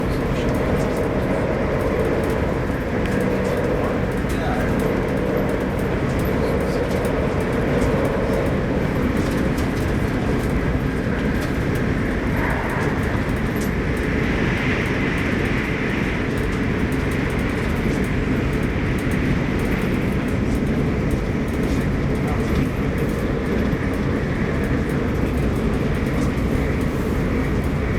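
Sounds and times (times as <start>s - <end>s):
electric train rumble and hum: 0.0s - 27.9s.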